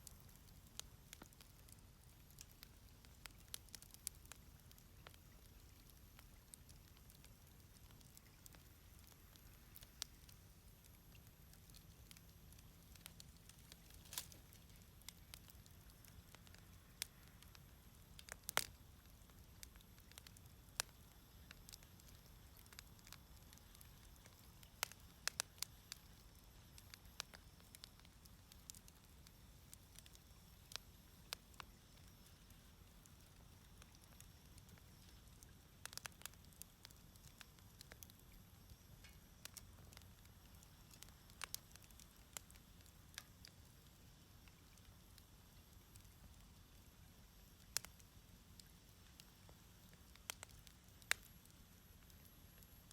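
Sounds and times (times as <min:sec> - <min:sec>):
faint low rumble: 0:00.0 - 0:52.9
wood fire crackling: 0:00.0 - 0:52.9.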